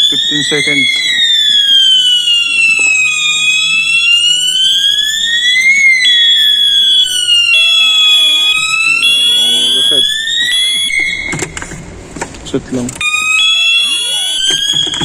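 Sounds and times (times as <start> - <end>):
pulsing high alarm tone: 0.0 - 12.0, 13.0 - 15.0
sweeping electronic alarm tone: 0.0 - 12.0, 13.0 - 15.0.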